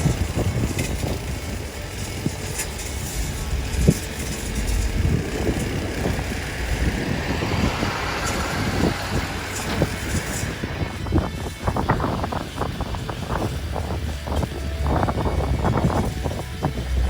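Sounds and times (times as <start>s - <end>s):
jet engine rushing hiss: 0.0s - 17.0s
wind buffeting microphone: 0.0s - 17.0s.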